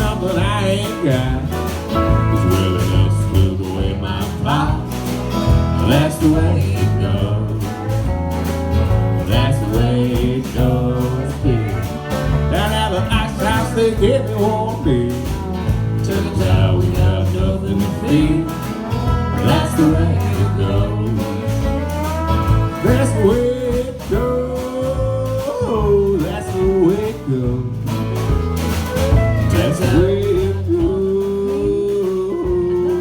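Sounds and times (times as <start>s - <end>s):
country band playing: 0.0s - 33.0s
guitar: 0.0s - 33.0s
sliding held melody line: 0.0s - 33.0s
steady bass beat: 0.0s - 33.0s.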